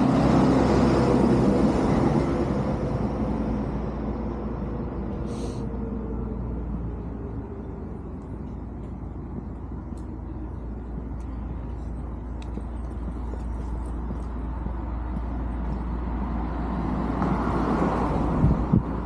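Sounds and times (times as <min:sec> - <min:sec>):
vehicle engine and tyre noise: 0:00.0 - 0:19.0.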